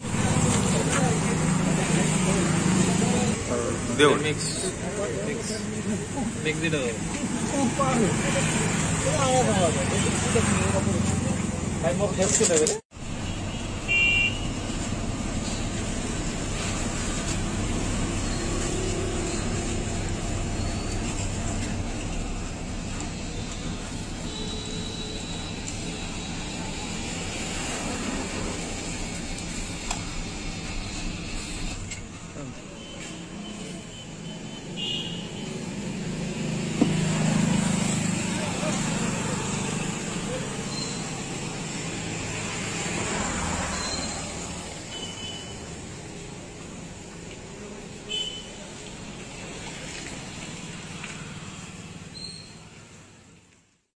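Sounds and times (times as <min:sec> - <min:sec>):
roadside traffic: 0:00.0 - 0:53.9
street noise hiss: 0:00.1 - 0:53.9.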